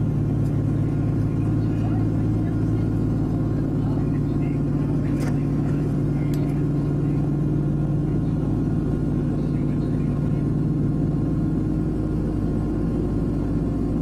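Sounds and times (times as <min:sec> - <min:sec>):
propeller aircraft engines droning: 0:00.0 - 0:14.0.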